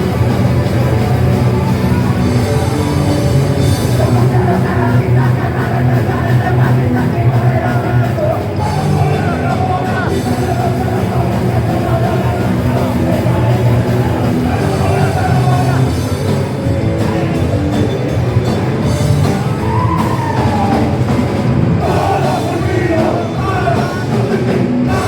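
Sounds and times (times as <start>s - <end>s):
punk rock band playing: 0.0s - 25.0s
shouted vocals: 1.5s - 16.2s, 19.2s - 25.0s.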